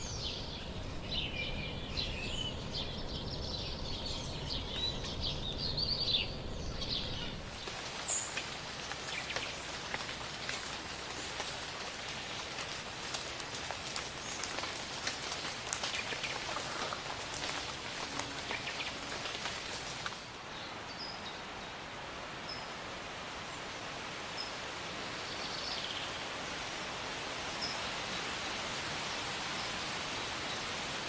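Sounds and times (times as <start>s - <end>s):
steady hiss: 0.0s - 20.9s, 21.5s - 31.0s
rain pattering on leaves: 2.0s - 20.8s, 21.6s - 31.0s.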